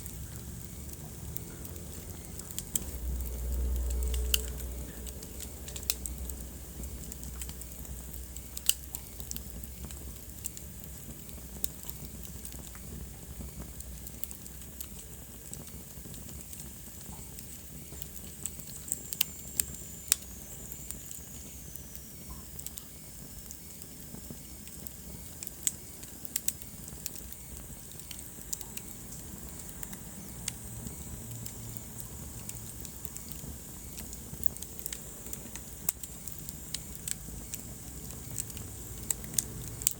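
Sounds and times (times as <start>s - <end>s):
fire hissing: 0.0s - 39.9s
wood fire crackling and popping: 0.0s - 39.9s.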